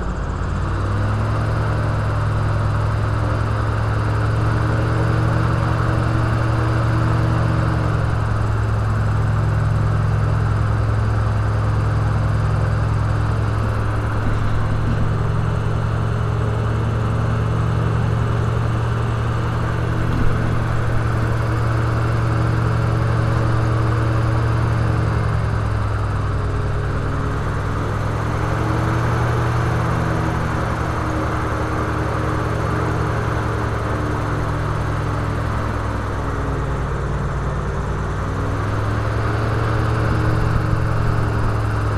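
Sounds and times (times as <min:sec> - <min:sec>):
airboat engine and propeller drone: 0:00.0 - 0:41.9.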